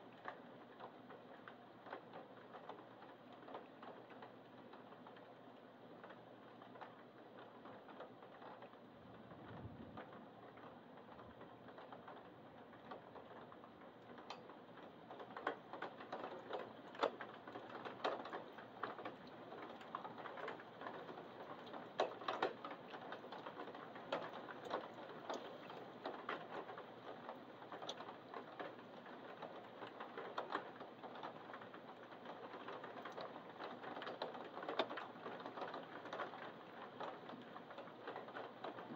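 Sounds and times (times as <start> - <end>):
raindrops ticking near microphone: 0.0 - 38.9
steady rain hiss: 0.0 - 38.9.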